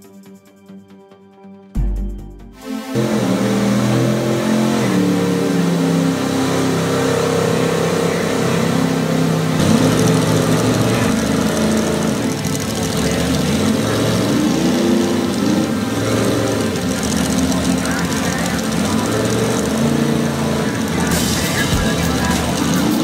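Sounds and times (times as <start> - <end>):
truck engines revving hard: 2.6 - 23.0.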